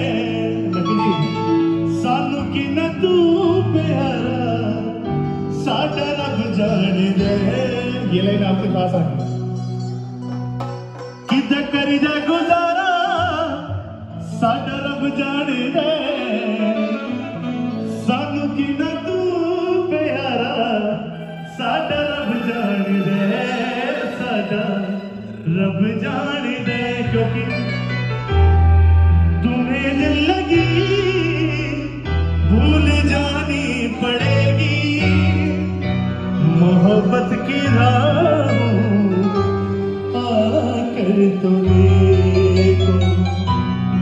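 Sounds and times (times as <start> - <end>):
man singing through pa system: 0.0 - 9.2, 11.3 - 17.3, 17.9 - 28.0, 29.3 - 43.5
live band accompaniment: 0.0 - 44.0.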